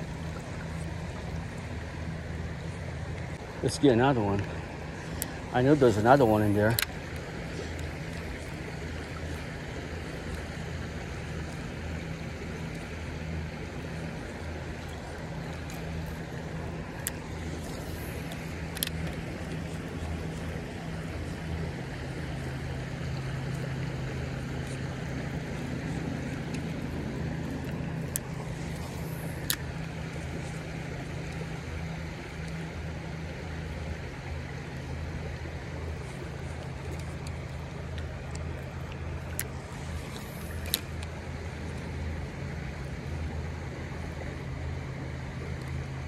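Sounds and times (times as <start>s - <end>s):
creek water flowing: 0.0s - 46.0s.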